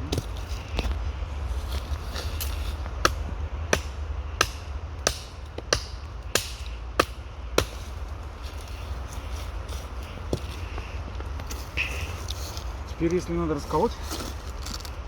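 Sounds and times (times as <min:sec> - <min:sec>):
hatchet chopping branches: 0:00.0 - 0:13.2.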